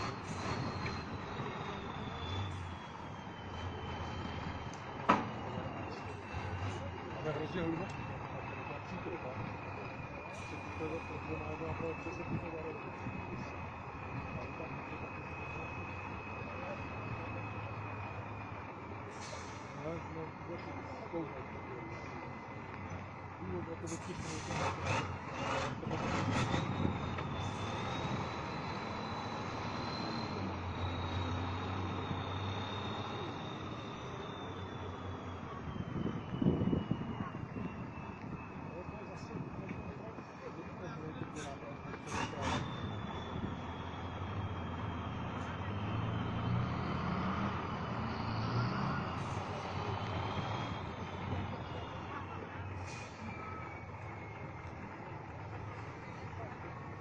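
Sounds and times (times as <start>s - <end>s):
diesel truck engine running hard: 0.0s - 57.0s.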